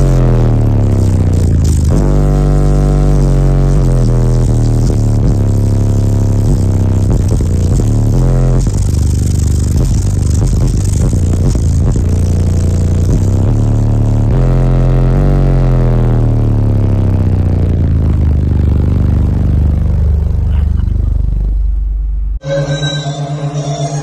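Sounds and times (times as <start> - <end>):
loud subwoofer bass tones: 0.0 - 24.0.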